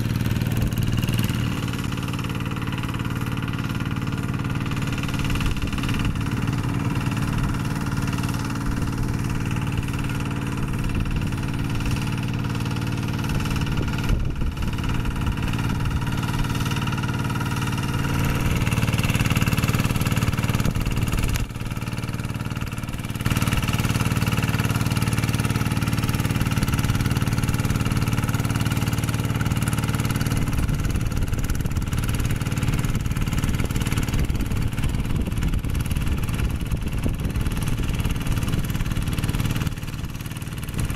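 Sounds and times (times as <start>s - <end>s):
diesel hand tractor engine running: 0.0s - 40.9s.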